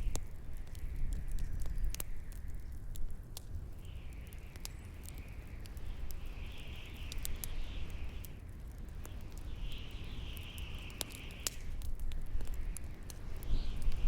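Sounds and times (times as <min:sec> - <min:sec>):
bonfire crackling and popping: 0:00.0 - 0:14.0
whistling wind howl: 0:00.0 - 0:14.0.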